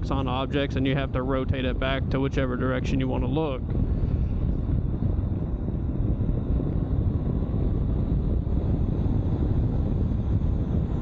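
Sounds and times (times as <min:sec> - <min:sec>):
wind and motorcycle riding noise: 0:00.0 - 0:11.0.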